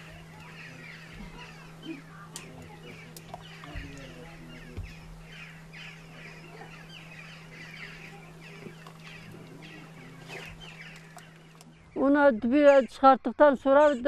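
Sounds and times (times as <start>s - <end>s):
birds calling: 0.0s - 14.0s
steady low hum: 0.0s - 14.0s.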